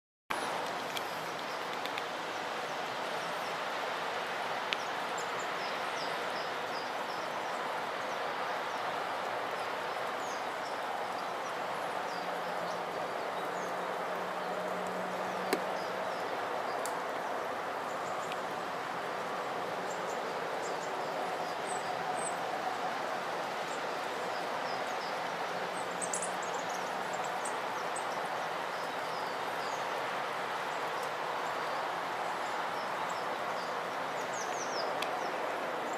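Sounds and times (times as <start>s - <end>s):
outdoor background hiss: 0.3s - 35.9s
small birds chirping: 4.6s - 18.6s, 19.8s - 35.9s.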